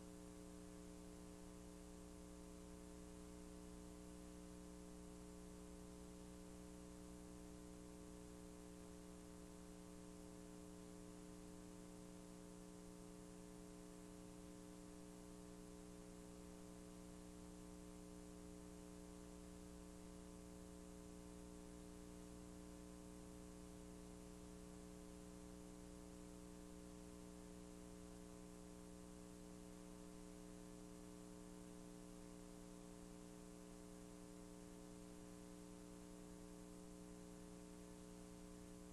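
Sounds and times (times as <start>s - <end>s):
electrical hum with hiss: 0.0s - 38.9s.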